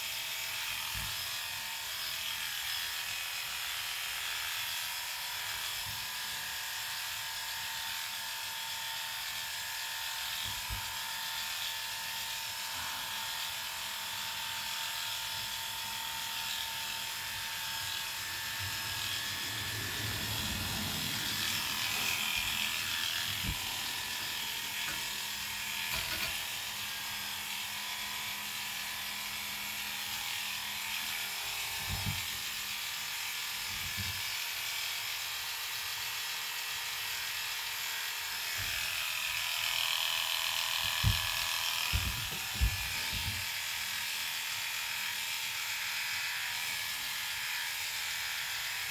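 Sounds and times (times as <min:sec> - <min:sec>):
electric pet clippers humming: 0:00.0 - 0:48.9.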